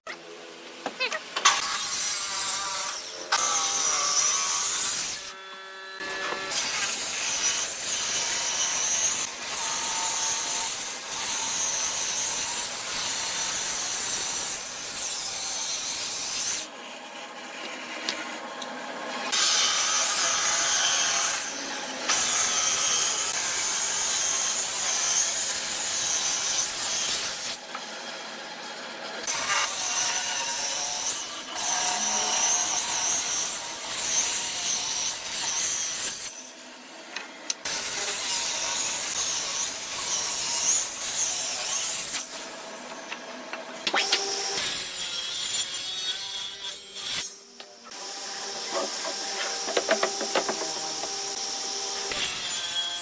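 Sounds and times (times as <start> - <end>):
power tool working wood: 1.1 - 36.3, 37.2 - 53.0.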